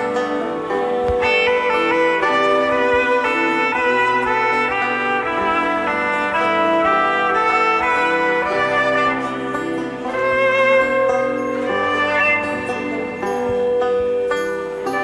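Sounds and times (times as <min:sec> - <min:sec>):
keyboard and string chords: 0:00.0 - 0:15.0.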